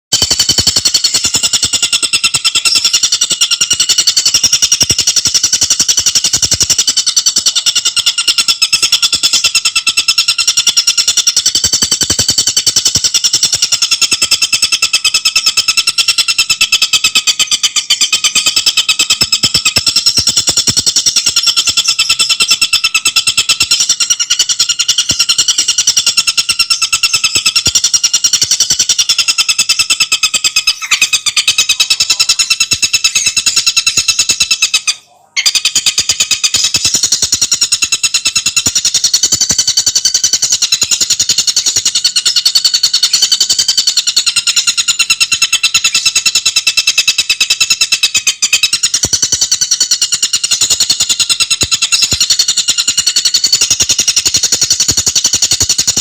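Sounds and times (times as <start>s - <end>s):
bird fast chattering call: 0.1s - 56.0s.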